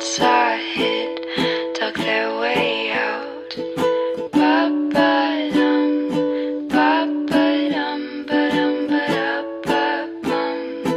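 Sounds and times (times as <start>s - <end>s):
instrumental pop music: 0.0s - 10.9s.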